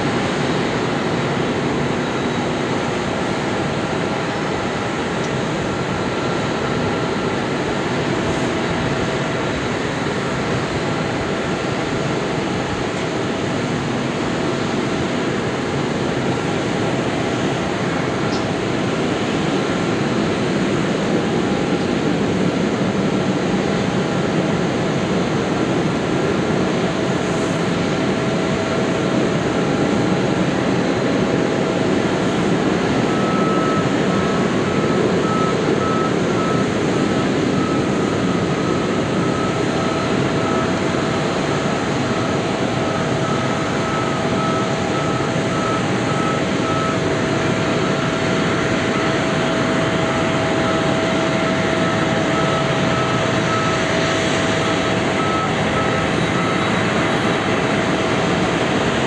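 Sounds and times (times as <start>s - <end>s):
jet engines rushing and whining: 0.0s - 59.0s.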